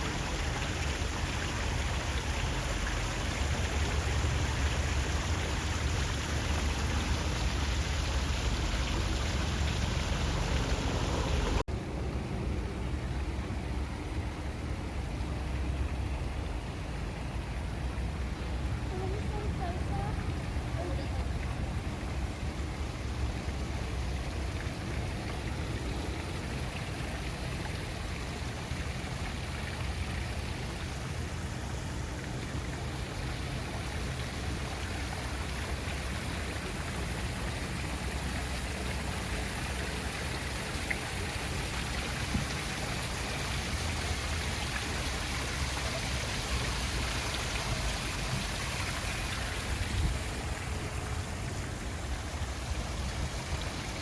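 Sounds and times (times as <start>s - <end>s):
running water hiss: 0.0s - 11.6s, 15.2s - 54.0s.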